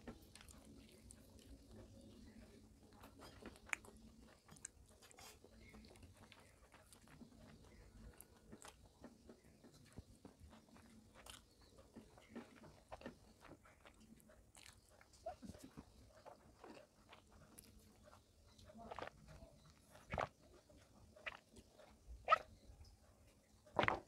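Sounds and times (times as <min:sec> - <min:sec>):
person chewing food: 0:00.0 - 0:22.5, 0:23.8 - 0:24.0.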